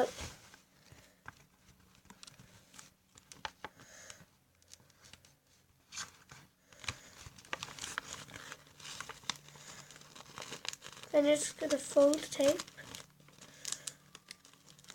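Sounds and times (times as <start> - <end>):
paper rustling and crinkling: 0.0 - 3.9, 4.6 - 14.9.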